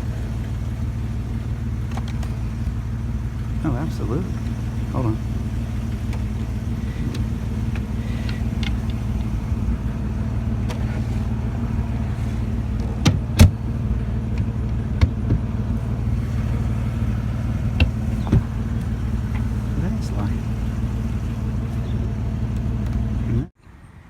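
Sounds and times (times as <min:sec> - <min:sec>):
car engine idling: 0:00.0 - 0:23.6.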